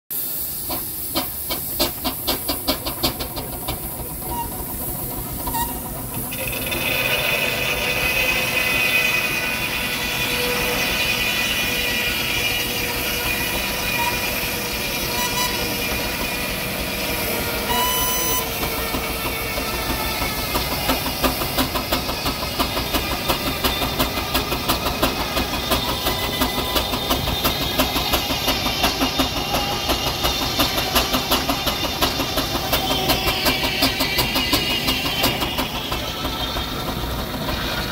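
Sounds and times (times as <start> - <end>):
steam engine exhaust beating: 0.1 - 37.9
saw whining through timber: 4.4 - 37.9.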